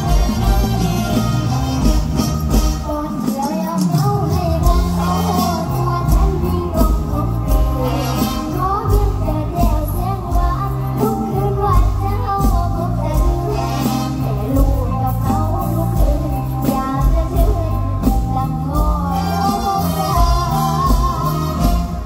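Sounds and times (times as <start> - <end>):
live band with steady bass beat: 0.0 - 22.0
person singing: 0.0 - 22.0.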